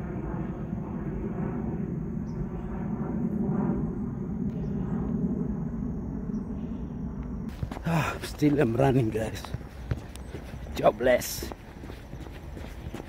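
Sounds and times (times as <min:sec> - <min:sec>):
airplane passing overhead: 0:00.0 - 0:13.0.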